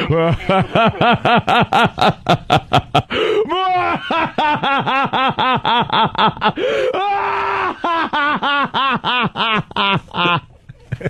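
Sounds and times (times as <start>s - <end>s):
man laughing theatrically: 0.0s - 11.0s.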